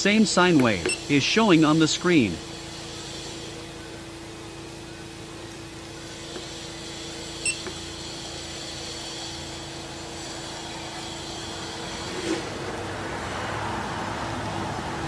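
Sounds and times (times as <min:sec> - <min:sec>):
steady single-pitched hum: 0:00.0 - 0:12.8.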